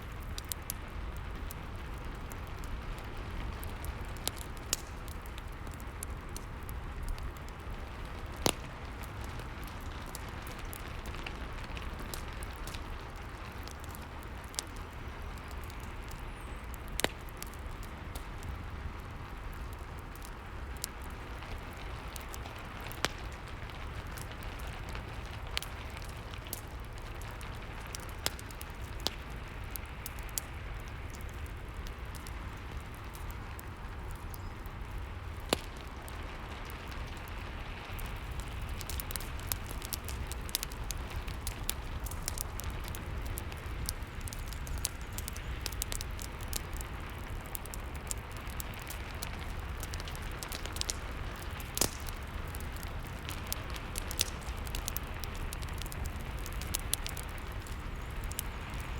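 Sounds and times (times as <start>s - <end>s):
steady rain: 0.0s - 58.9s
wood fire crackling: 0.0s - 58.9s.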